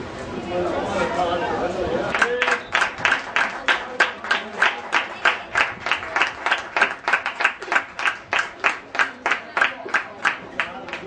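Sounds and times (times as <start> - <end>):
hands clapping: 2.1 - 11.0.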